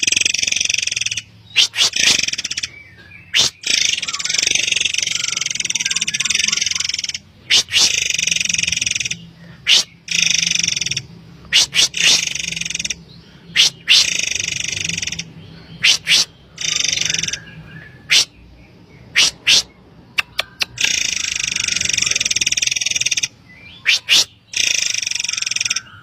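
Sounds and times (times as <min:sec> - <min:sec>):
buzzy rattling bird trills: 0:00.0 - 0:17.4, 0:20.8 - 0:26.0
high whistled bird calls: 0:00.2 - 0:18.4, 0:19.0 - 0:26.0.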